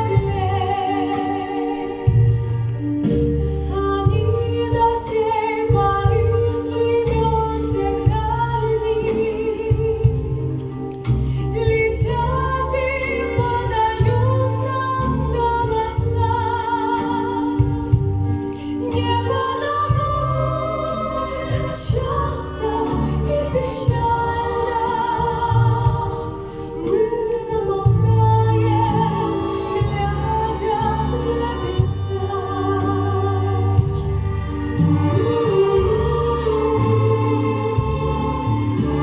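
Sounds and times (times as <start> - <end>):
instrumental backing with low beat: 0.0 - 39.0.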